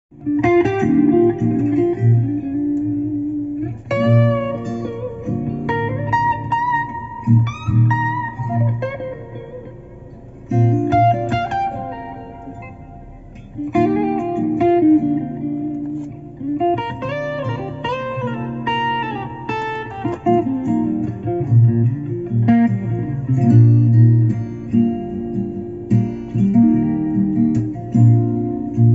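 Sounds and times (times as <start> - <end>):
plucked guitar music: 0.1 - 28.9.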